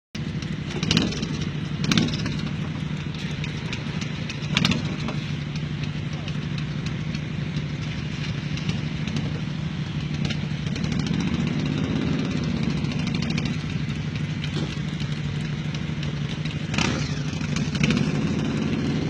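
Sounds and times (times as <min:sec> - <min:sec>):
motorcycle engine idling: 0:00.2 - 0:19.0.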